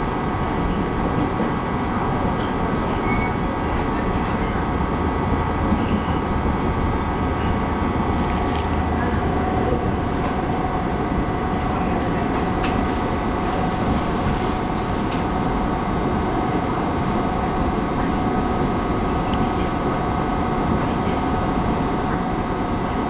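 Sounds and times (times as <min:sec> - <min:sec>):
high hum: 0:00.0 - 0:23.0
train wheels rumbling on rails: 0:00.0 - 0:23.0.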